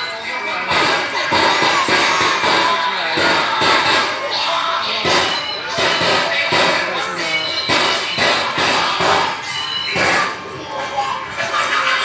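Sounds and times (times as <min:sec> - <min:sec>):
puppet show music: 0:00.0 - 0:12.0
percussion strikes: 0:00.6 - 0:10.5.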